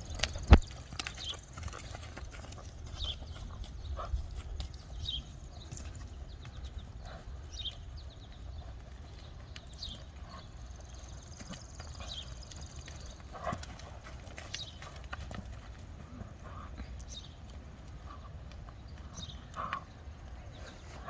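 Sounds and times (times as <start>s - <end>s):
horse hoofbeats on sand: 0.0s - 21.0s.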